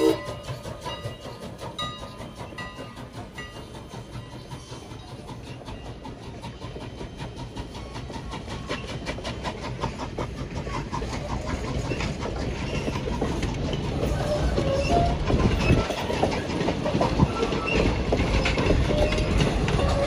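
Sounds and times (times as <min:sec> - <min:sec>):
steam train rumble: 0:00.0 - 0:20.0
wheels clicking on rails: 0:00.0 - 0:20.0.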